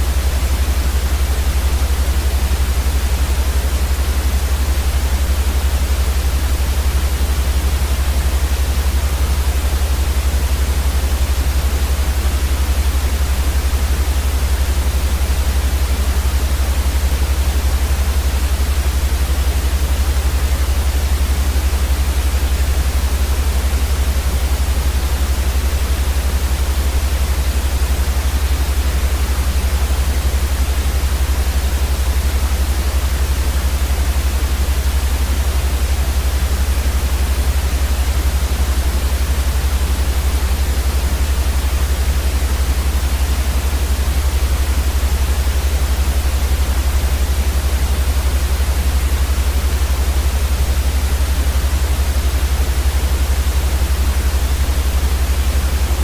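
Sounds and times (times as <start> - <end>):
synthetic white noise hiss: 0.0 - 56.0.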